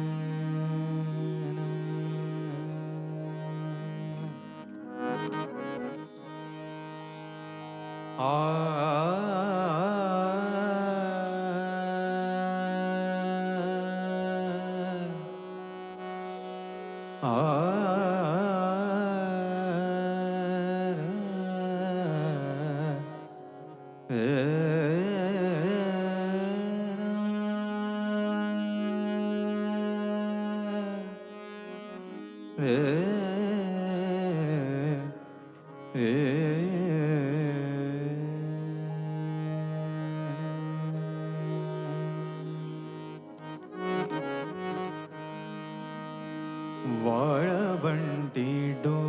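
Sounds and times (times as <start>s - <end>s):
ornamented melodic phrases: 0.0s - 49.0s.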